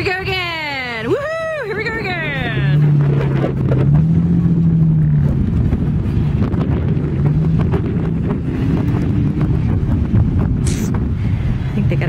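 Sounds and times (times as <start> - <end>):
wind on microphone: 0.0 - 12.0
car engine revving: 2.0 - 12.0.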